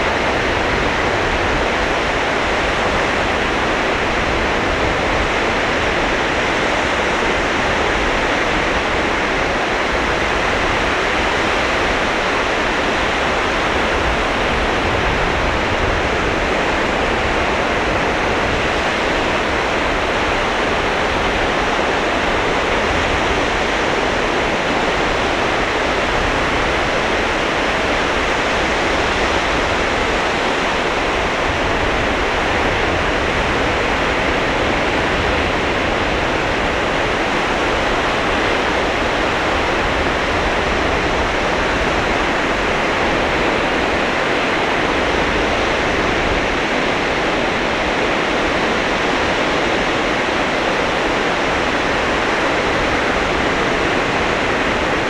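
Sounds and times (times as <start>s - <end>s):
surf washing onto beach: 0.0s - 55.0s.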